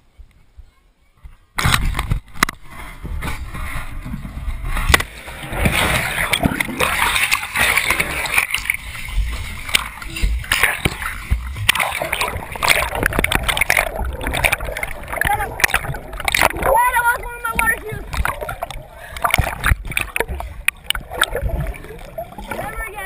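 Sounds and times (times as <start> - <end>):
water churning and splashing: 1.6 - 23.0.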